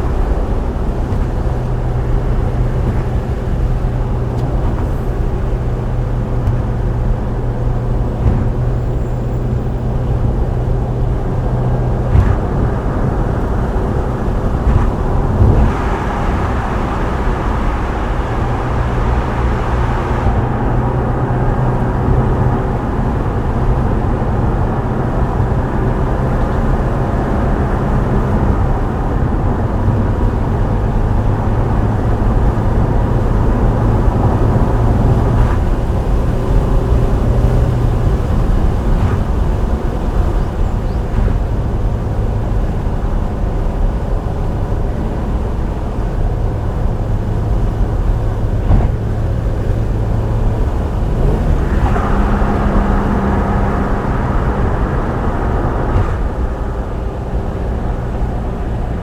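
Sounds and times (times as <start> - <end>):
turbocharged car engine running: 0.0 - 59.0
tyre and road noise: 0.0 - 59.0.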